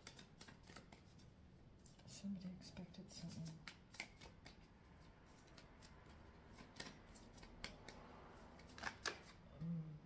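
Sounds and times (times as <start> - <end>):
cards being shuffled: 0.0 - 2.0, 3.2 - 9.4.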